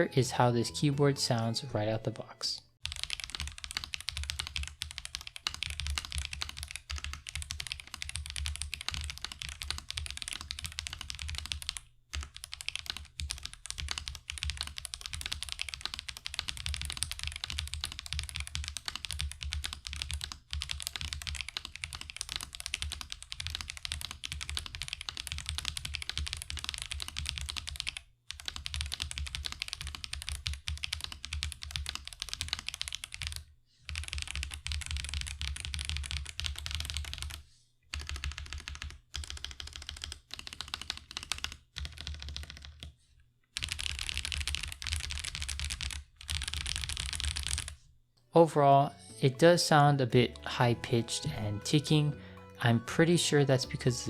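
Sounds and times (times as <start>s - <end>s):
mechanical keyboard typing: 2.8s - 42.9s, 43.6s - 47.8s.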